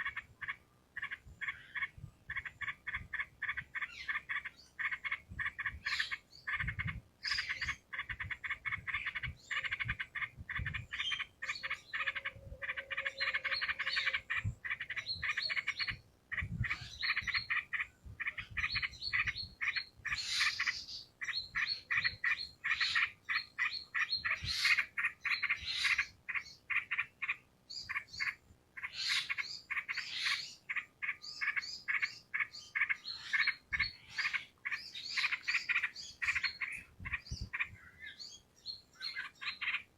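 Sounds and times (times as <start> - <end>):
bulbuls singing and chattering: 0.0 - 39.9.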